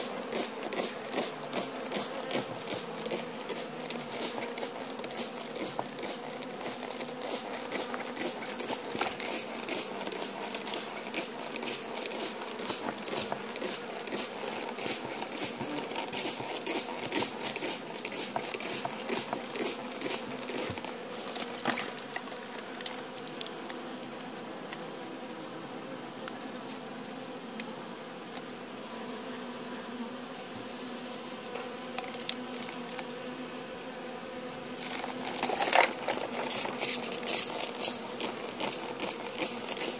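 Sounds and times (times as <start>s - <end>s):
bees humming: 0.0s - 39.9s
small clicks and crackles: 0.2s - 25.0s, 26.2s - 28.6s, 31.4s - 33.3s, 34.8s - 39.9s.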